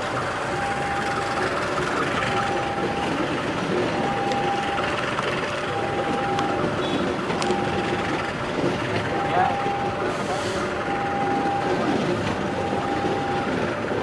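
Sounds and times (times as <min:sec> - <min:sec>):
level crossing warning alarm: 0:00.0 - 0:14.0
train wheels rushing on rail: 0:00.0 - 0:14.0.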